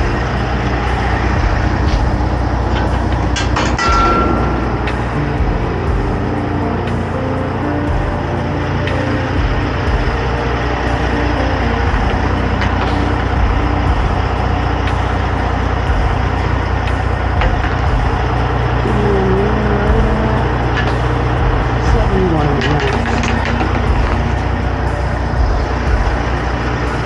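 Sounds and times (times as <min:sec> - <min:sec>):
road noise: 0:00.0 - 0:27.0
truck engine rumble: 0:00.0 - 0:27.0.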